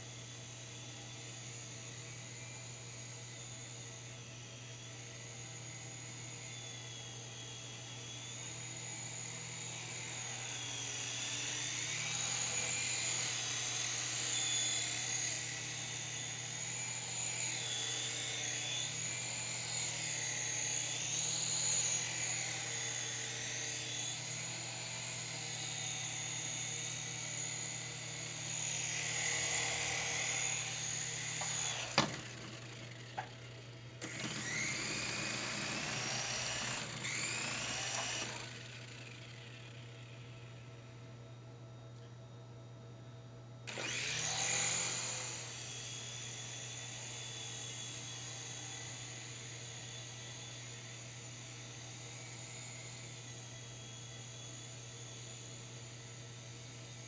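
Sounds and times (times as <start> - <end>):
toy helicopter rotors whirring: 2.4 - 40.2, 43.7 - 57.0.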